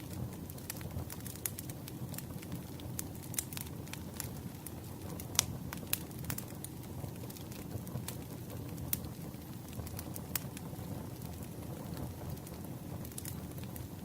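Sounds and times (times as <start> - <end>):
campfire crackling and popping: 0.0 - 14.0
low rumble of burning wood: 0.0 - 14.0.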